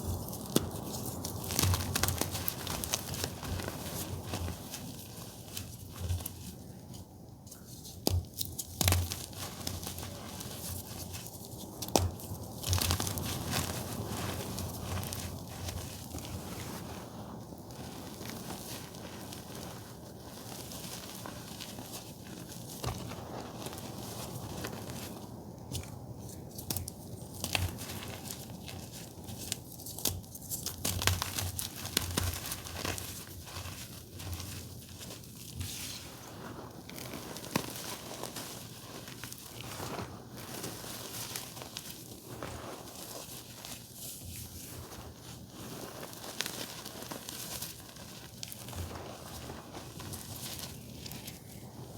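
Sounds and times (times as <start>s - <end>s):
chalk crunching and crackling: 0.0s - 51.9s.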